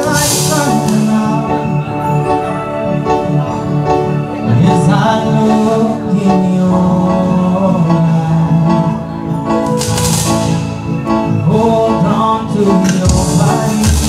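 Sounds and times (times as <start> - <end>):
man singing into a microphone: 0.0 - 9.8, 11.2 - 14.0
held keyboard chords: 0.0 - 14.0
live reggae band playing: 0.0 - 14.0.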